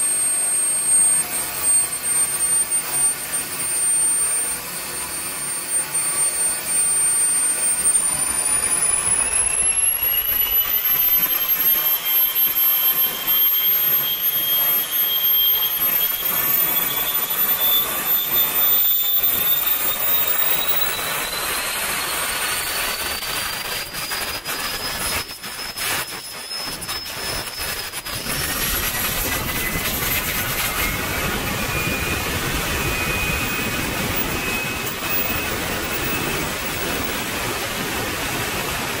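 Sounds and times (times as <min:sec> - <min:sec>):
jet turbine high-pitched whine: 0:00.0 - 0:39.0.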